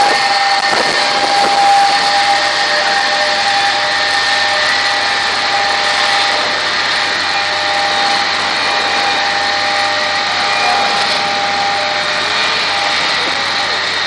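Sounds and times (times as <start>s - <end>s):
high whining engine tones: 0.0s - 14.0s
water jets rushing: 0.0s - 14.0s.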